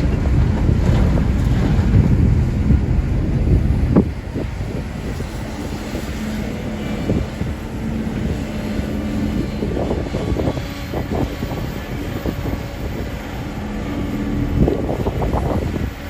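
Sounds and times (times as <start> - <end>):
excavator diesel engine running: 0.0 - 16.0
rough bursts of noise: 0.0 - 16.0.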